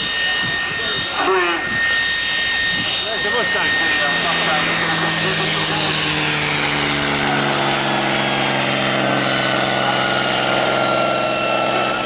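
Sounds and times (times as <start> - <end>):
propeller aircraft engine passing: 0.0 - 12.0.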